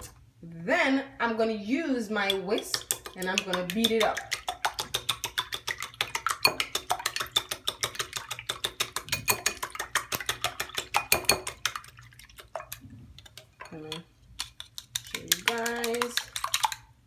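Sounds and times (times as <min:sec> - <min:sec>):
whisk clicking against bowl: 0:02.2 - 0:16.9.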